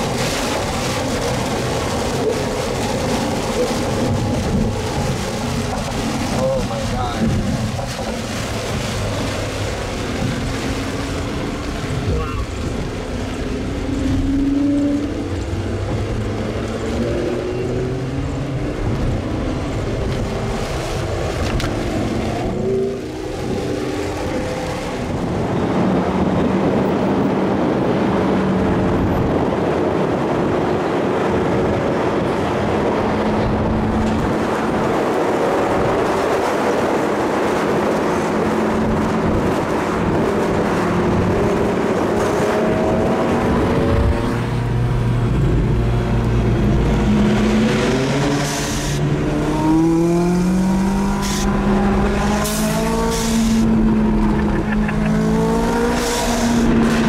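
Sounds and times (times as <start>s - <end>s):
car engine running at speed: 0.0s - 57.0s
road and wind noise: 0.0s - 57.0s.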